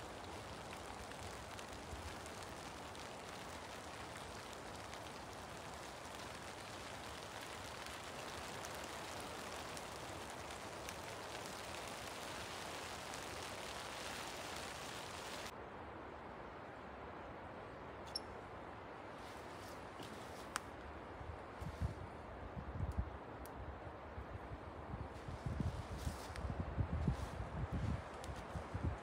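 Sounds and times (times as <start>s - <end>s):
light rain hissing: 0.0s - 29.0s.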